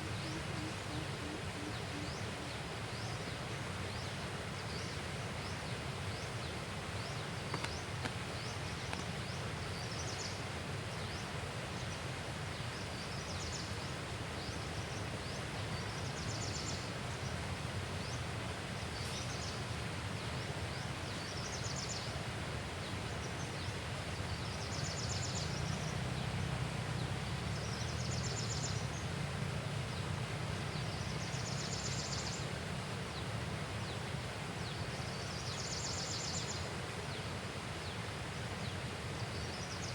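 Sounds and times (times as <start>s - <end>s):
low rumble and hiss: 0.0s - 39.9s.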